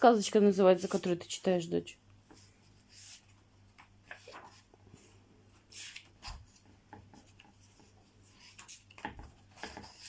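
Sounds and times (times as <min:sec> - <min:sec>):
rustling and handling noises: 0:00.0 - 0:10.0.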